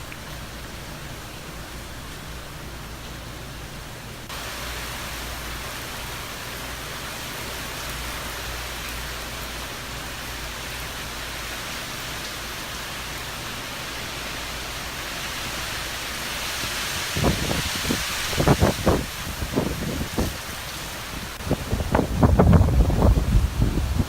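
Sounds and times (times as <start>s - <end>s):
rain and wind rushing: 0.0s - 24.0s.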